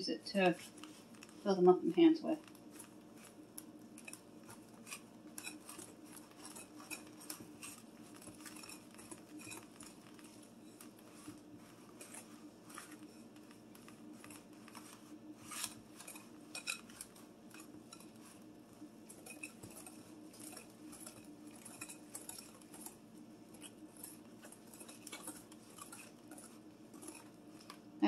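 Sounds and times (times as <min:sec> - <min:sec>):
spoon stirring batter in glass bowl: 0:02.4 - 0:28.0.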